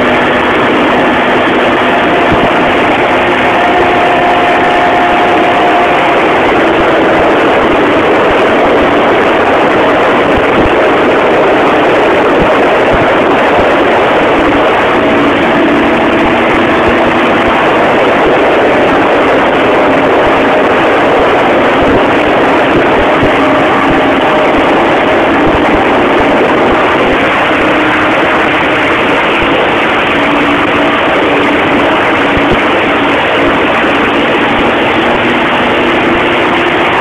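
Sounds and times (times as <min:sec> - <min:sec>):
loud steady rushing noise: 0:00.0 - 0:37.0
quad engine running: 0:00.0 - 0:37.0.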